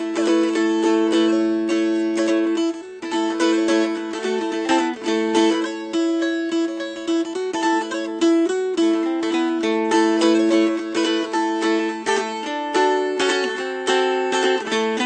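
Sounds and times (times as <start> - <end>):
dulcimer melody with drone strings: 0.0 - 15.0.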